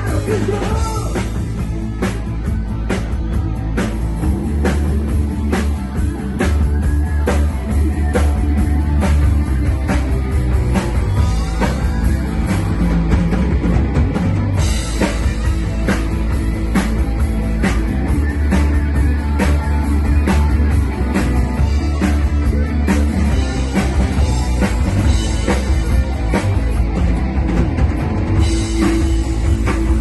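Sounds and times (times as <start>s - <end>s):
rock band playing instrumental: 0.0s - 30.0s.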